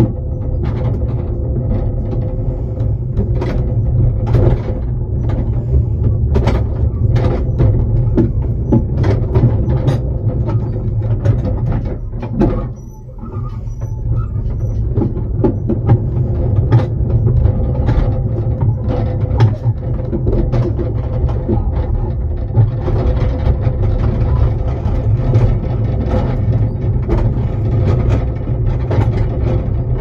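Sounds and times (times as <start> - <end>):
coach knocking and rattling: 0.0 - 30.0
wheels rumbling on track: 0.0 - 30.0.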